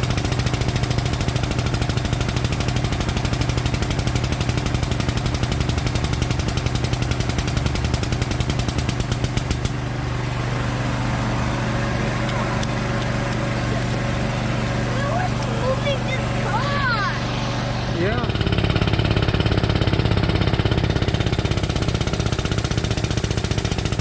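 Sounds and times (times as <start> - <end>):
machine pounding rhythmically: 0.0 - 9.8, 12.0 - 24.0
steady low hum: 0.0 - 22.1.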